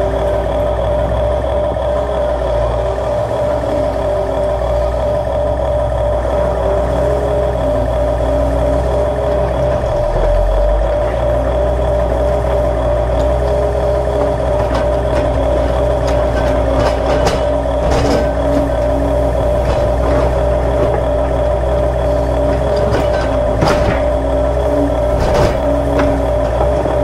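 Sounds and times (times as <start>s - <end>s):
toy excavator motor humming: 0.0s - 27.0s.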